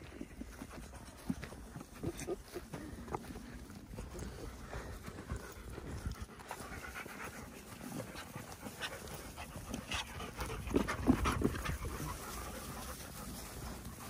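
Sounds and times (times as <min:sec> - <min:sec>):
dogs panting: 0:00.0 - 0:14.0
trotting through long grass: 0:00.0 - 0:14.0.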